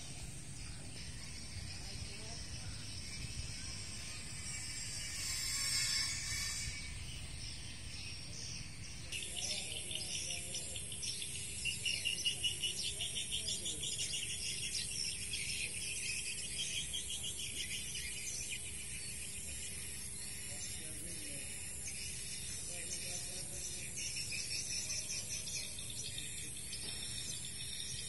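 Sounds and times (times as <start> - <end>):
high-pitched insect chirping: 0.0 - 28.0.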